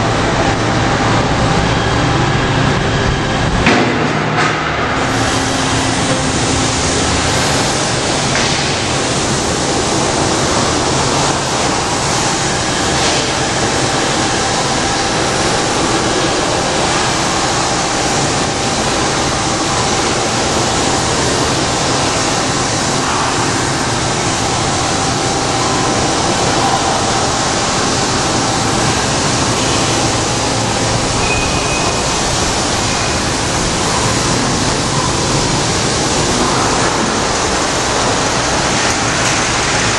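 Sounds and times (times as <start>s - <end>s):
machinery hiss: 4.9s - 39.9s.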